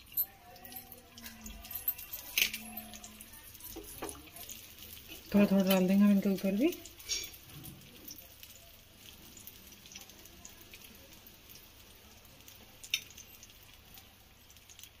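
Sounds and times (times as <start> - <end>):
ghee sizzling in a pan: 0.0 - 15.0
small crackles: 0.0 - 15.0.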